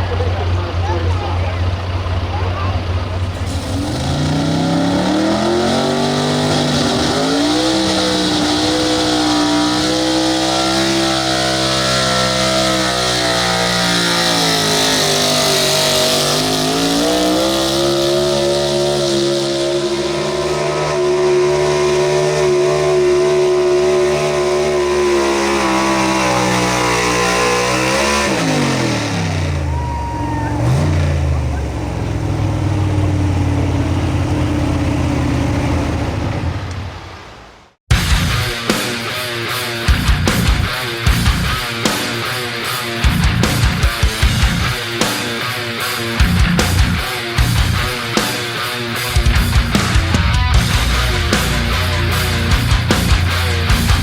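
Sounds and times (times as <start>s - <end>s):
truck engine revving: 0.0s - 38.9s, 39.9s - 54.0s.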